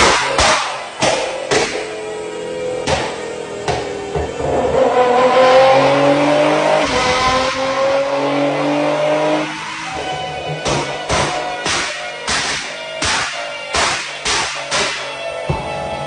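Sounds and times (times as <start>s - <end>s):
sports car engine accelerating: 0.0s - 13.7s, 14.4s - 16.0s.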